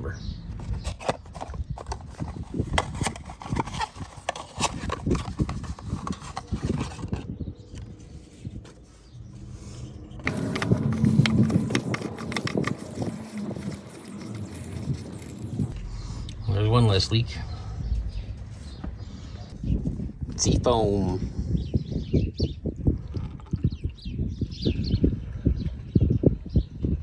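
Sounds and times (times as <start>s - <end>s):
low rumble: 0.0s - 3.9s, 4.5s - 27.0s.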